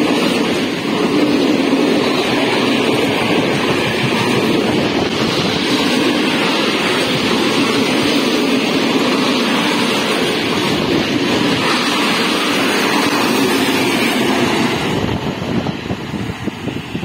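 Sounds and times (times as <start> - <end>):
diesel locomotive passing: 0.0 - 17.0
train wheels on rails: 0.0 - 17.0.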